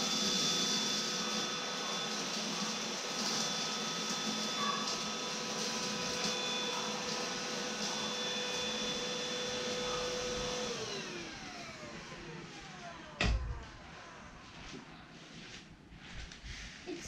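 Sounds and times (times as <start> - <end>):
stick vacuum motor whine: 0.0 - 14.5.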